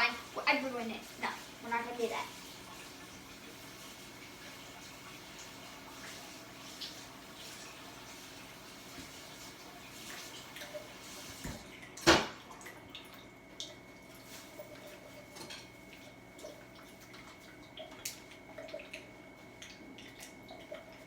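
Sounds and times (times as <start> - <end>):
juice pouring and dripping: 0.0 - 21.0.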